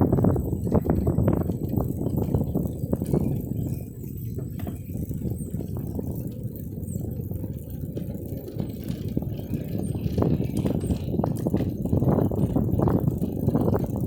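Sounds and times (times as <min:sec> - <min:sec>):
bicycle rumbling on road: 0:00.0 - 0:14.0
bike rattling clicks: 0:00.0 - 0:14.0.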